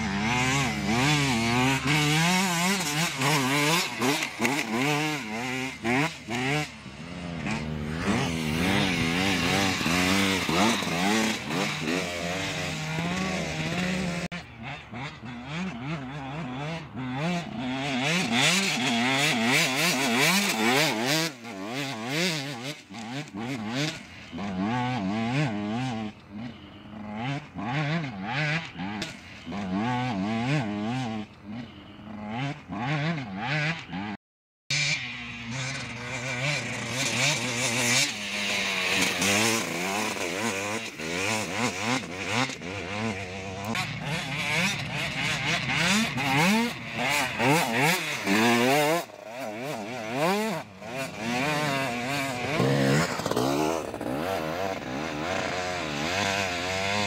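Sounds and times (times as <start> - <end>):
dirt bikes revving: 0.0 - 57.0.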